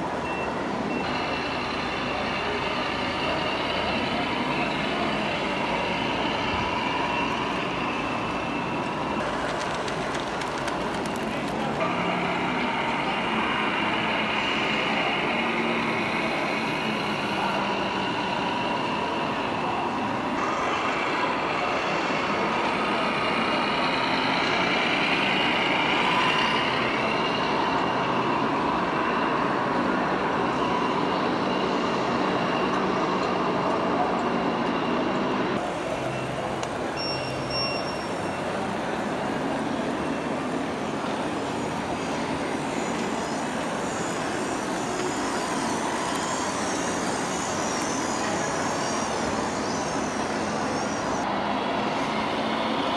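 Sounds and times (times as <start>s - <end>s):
din of busy hall: 0.0s - 52.9s
simulated diesel engine noise: 0.0s - 52.9s.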